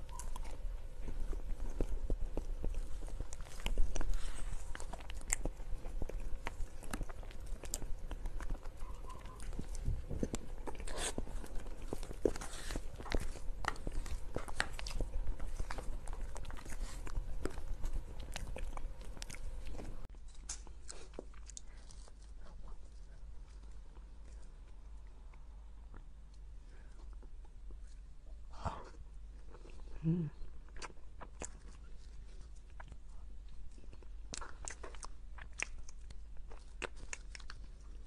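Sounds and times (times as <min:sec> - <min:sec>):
mouth chewing clicks and smacks: 0:00.0 - 0:22.6, 0:23.9 - 0:38.0.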